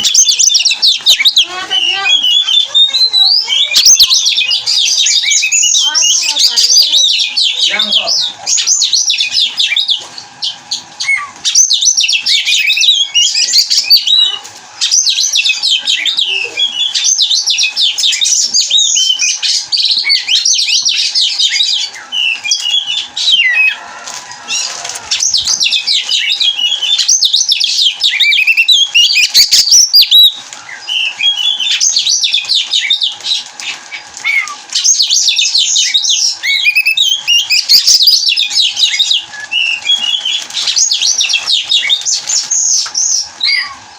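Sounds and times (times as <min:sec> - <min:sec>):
songbird whistling and chattering: 0:00.0 - 0:23.8, 0:24.4 - 0:43.9.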